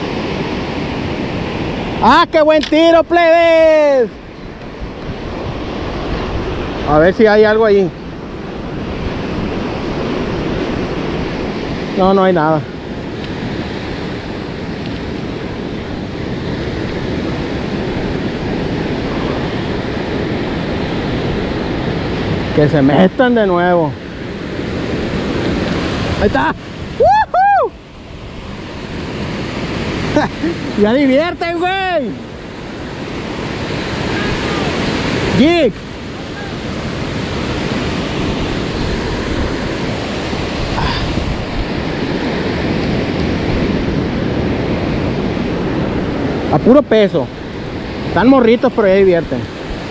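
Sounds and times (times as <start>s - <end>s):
ocean surf washing on shore: 0.0s - 49.9s
wind on microphone: 0.0s - 49.9s.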